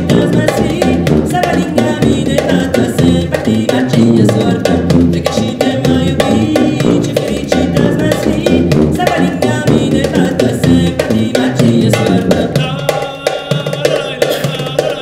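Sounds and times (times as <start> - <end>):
band music with drum beat: 0.0 - 15.0.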